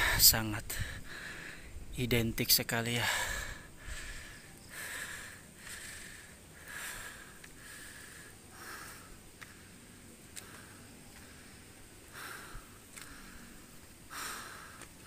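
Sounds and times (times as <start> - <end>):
man breathing hard: 0.0 - 1.9, 3.0 - 15.0.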